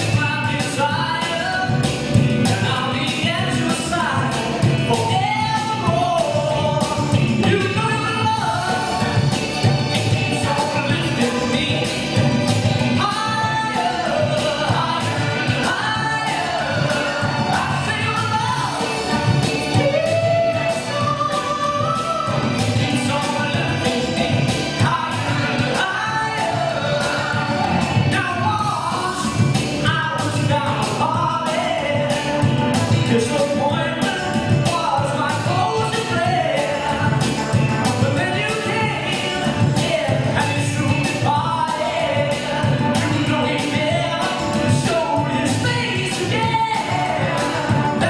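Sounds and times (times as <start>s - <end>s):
backing track with steady beat: 0.0s - 48.0s
man singing into a microphone: 0.0s - 48.0s.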